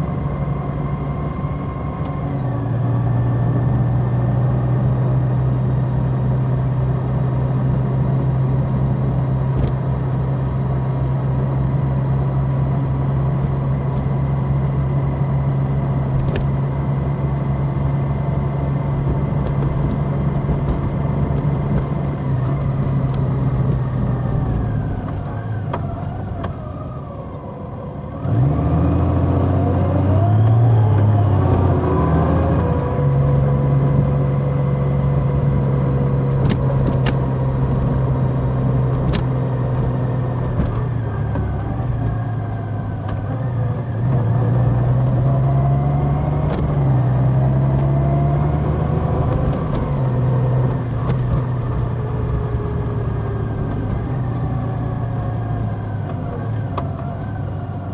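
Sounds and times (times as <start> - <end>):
motorcycle engine cruising: 0.0 - 57.9
road and wind noise: 0.0 - 57.9.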